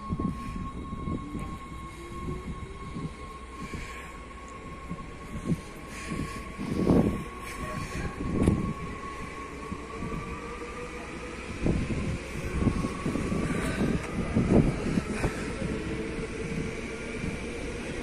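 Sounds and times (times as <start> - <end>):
train running past: 0.0 - 18.0.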